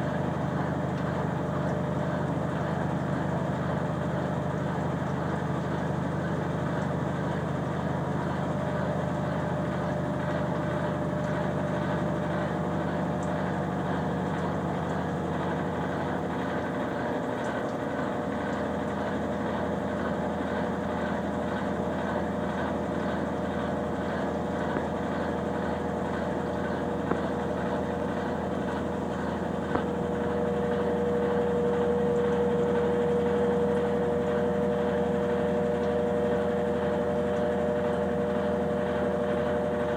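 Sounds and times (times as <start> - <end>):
washing machine motor hum: 0.0 - 39.9
washing machine whine: 0.0 - 39.9.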